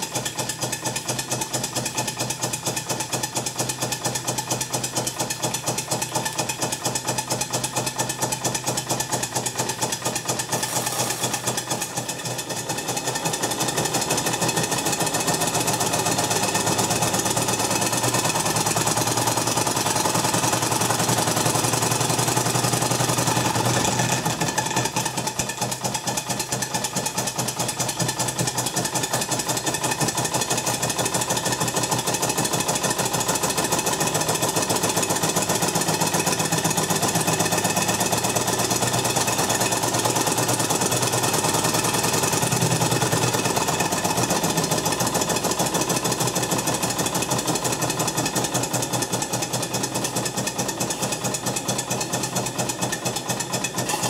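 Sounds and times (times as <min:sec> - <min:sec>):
steam engine model beats: 0:00.0 - 0:54.0.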